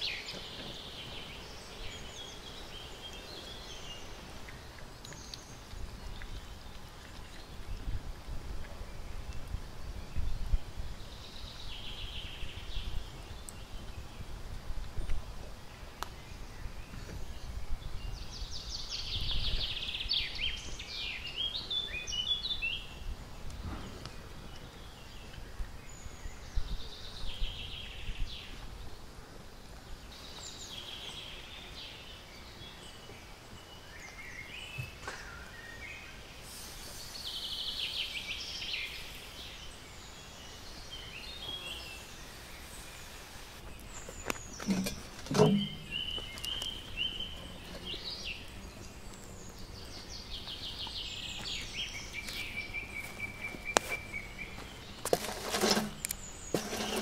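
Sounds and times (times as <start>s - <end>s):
birds twittering: 0.0s - 7.9s, 15.5s - 57.0s.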